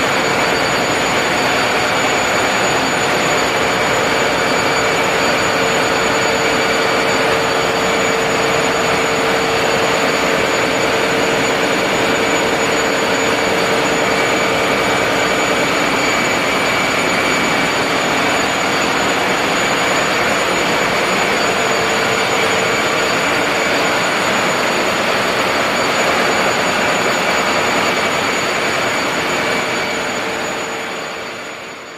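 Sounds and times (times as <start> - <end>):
constant mechanical whine: 0.0 - 31.9
engine room machinery running: 0.0 - 31.9.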